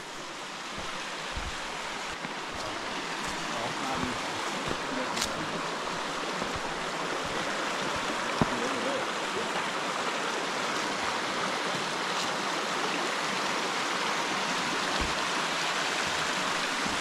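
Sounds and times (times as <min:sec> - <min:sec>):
stream babbling over rocks: 0:00.0 - 0:17.0.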